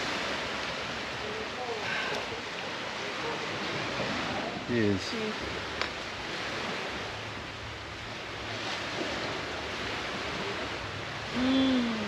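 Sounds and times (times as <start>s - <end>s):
sea waves breaking: 0.0s - 12.0s.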